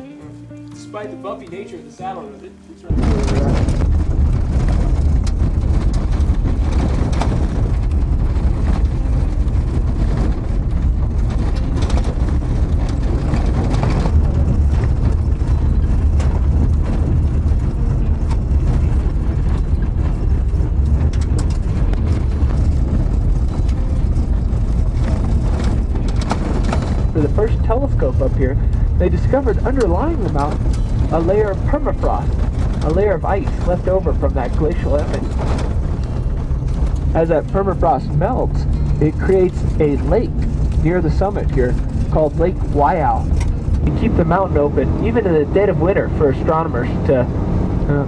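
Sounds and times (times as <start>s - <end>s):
vehicle rumble from inside: 2.8s - 48.0s.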